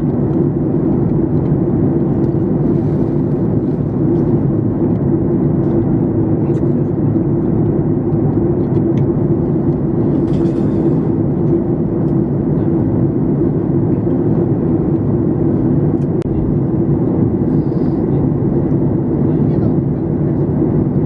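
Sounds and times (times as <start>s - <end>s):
airliner cabin drone: 0.0s - 21.0s.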